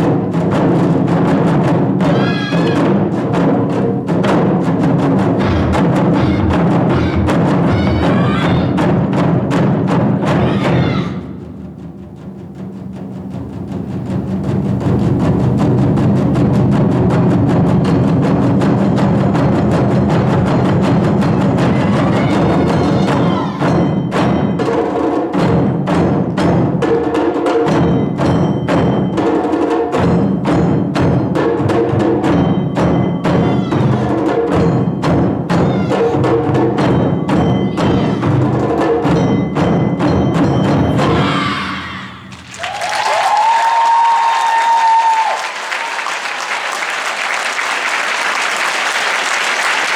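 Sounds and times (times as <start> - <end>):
taiko drum ensemble playing: 0.0 - 45.9.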